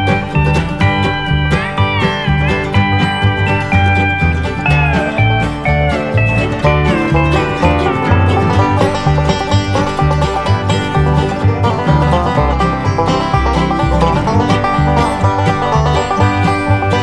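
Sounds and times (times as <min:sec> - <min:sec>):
banjo picking: 0:00.0 - 0:17.0
bass line: 0:00.0 - 0:17.0
guitar: 0:00.0 - 0:17.0.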